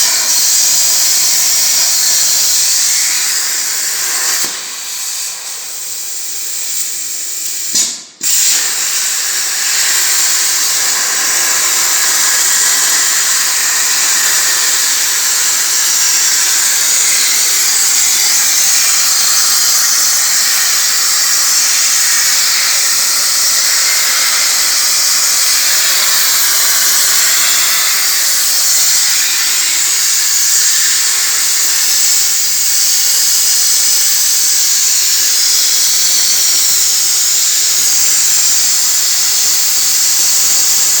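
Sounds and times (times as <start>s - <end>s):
plasma cutter torch hissing: 0.0s - 41.0s.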